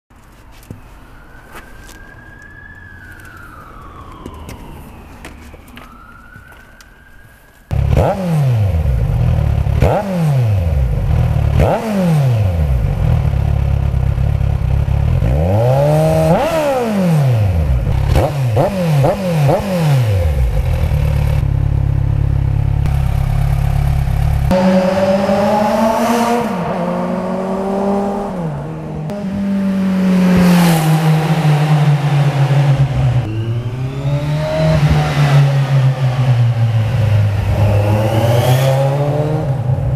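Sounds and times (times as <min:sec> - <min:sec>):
motorcycle engine revving and idling: 0:07.7 - 0:39.9.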